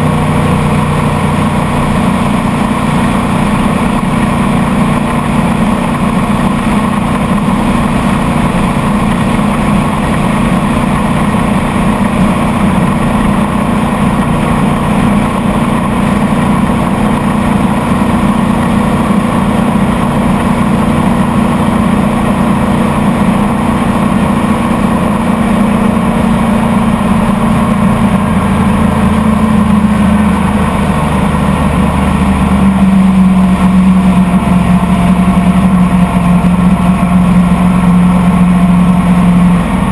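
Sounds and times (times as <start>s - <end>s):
motorboat engine running: 0.0s - 39.9s
water noise: 0.0s - 39.9s.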